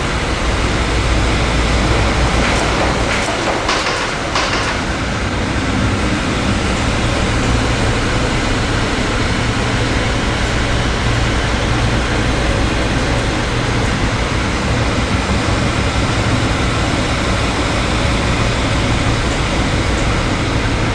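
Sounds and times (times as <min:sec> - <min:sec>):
roaring hurricane wind: 0:00.0 - 0:20.9.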